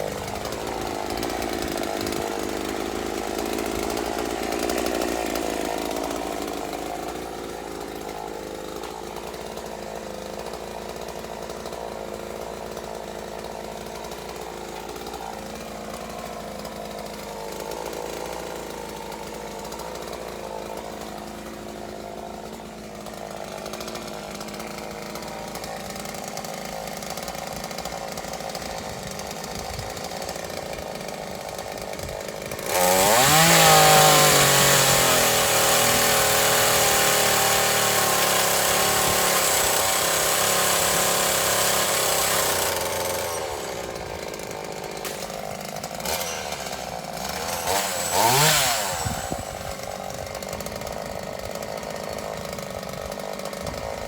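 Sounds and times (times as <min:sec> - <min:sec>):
chainsaw running: 0:00.0 - 0:54.0.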